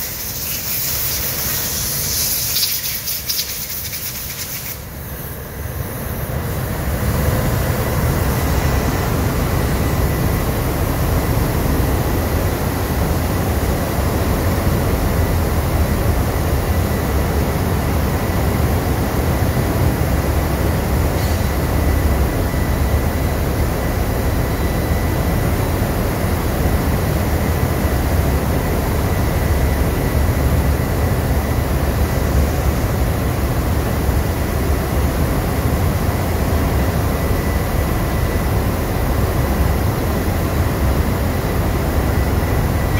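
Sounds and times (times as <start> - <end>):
ship engine room rumble: 4.8 - 42.9.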